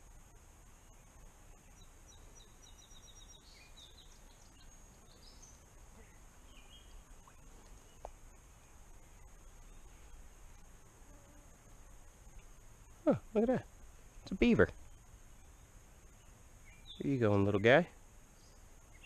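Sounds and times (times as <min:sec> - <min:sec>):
background hiss: 0:00.0 - 0:19.0
songbird singing: 0:00.0 - 0:19.0.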